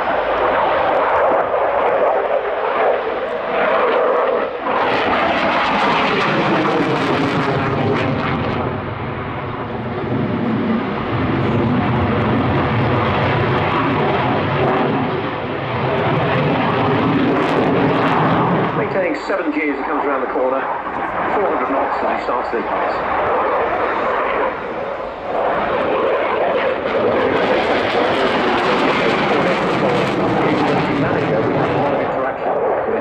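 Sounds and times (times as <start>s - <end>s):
jet engine roaring in flight: 0.0s - 33.0s.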